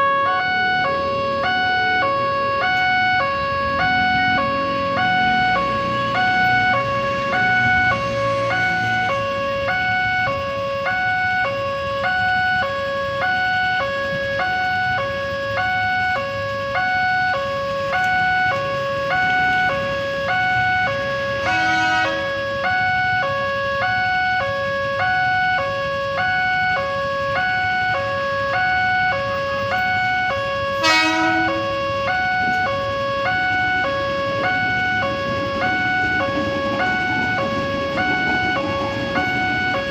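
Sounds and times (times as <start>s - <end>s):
level-crossing two-note alarm: 0.0s - 39.9s.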